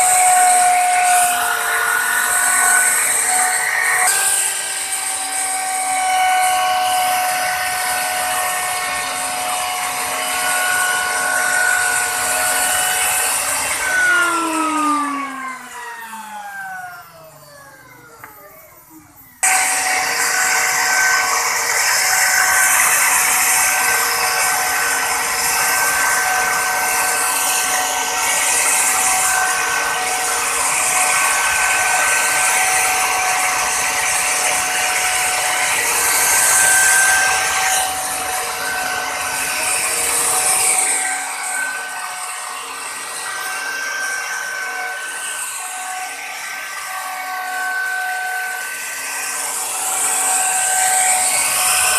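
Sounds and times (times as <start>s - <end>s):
electric router whining: 0.0s - 51.9s
router bit cutting wood: 0.0s - 51.9s.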